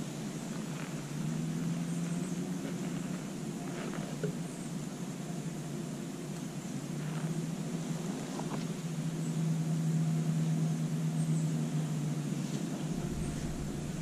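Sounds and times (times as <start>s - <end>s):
distant engine drone: 0.0s - 14.0s.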